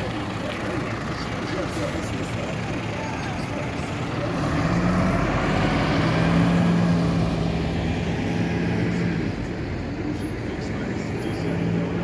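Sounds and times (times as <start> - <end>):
road noise: 0.0 - 12.0
vehicle engine passing: 0.0 - 12.0.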